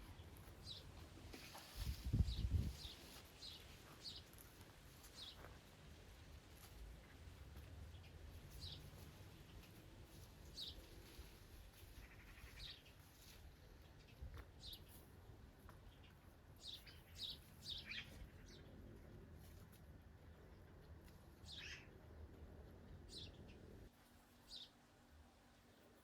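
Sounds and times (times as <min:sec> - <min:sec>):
low background hum: 0:02.5 - 0:26.0.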